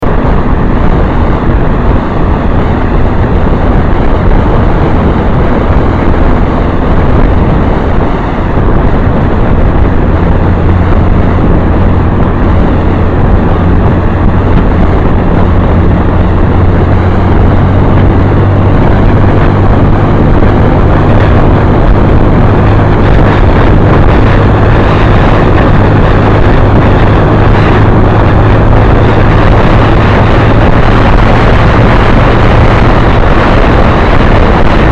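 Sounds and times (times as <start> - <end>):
motorcycle engine drone: 0.0 - 34.9
wind and road rush: 0.0 - 34.9.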